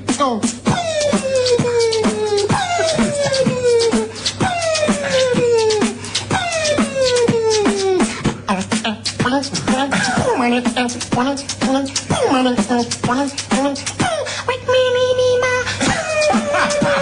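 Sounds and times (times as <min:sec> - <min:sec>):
beatboxing percussion: 0:00.0 - 0:14.7, 0:15.4 - 0:17.0.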